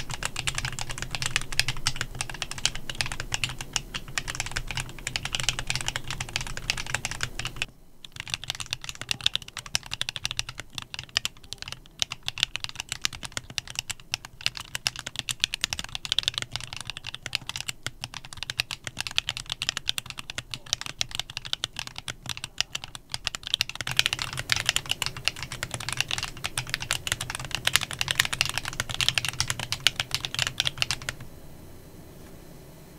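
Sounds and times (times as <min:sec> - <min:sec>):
mechanical keyboard typing: 0:00.0 - 0:31.3.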